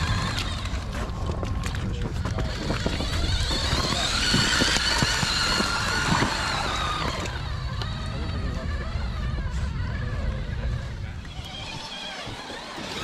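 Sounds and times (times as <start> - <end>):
electric motor and gears whining: 0.0 - 13.0.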